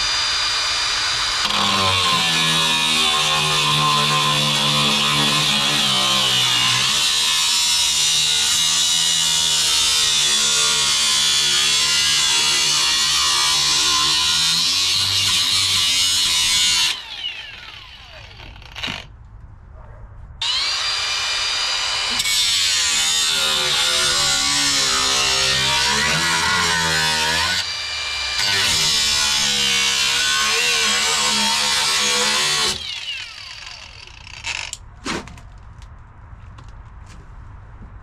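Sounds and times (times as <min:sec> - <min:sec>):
power tool cutting sheet metal: 0:00.0 - 0:19.0, 0:20.4 - 0:34.8.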